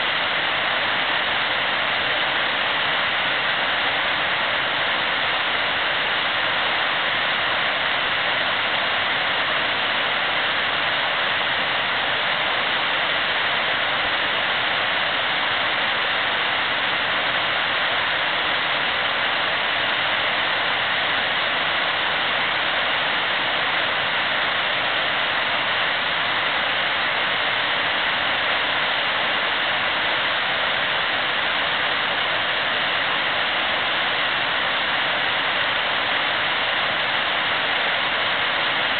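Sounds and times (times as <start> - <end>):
river water rushing through rapids: 0.0 - 38.9.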